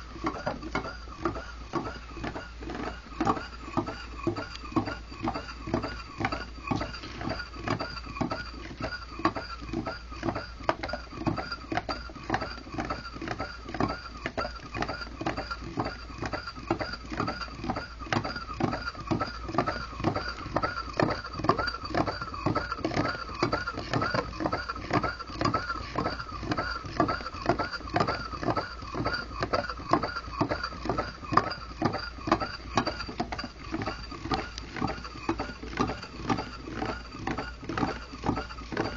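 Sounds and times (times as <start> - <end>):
small engine knocking rhythmically: 0.0 - 38.9.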